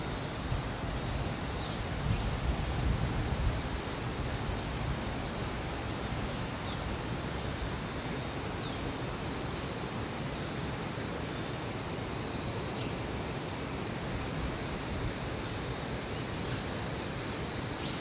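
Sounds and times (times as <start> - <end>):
thin high whine: 0.0 - 18.0.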